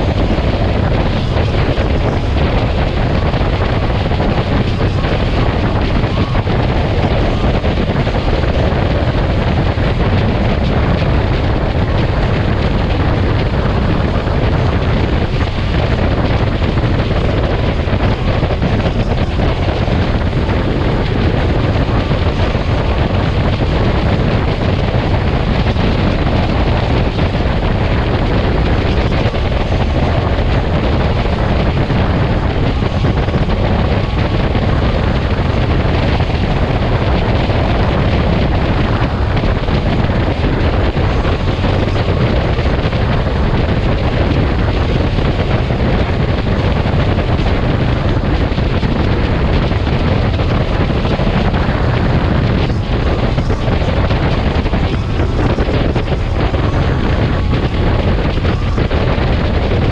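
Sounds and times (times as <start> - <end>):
engine noise: 0.0 - 59.9
road noise: 0.0 - 59.9
wind rushing over microphone: 0.0 - 59.9.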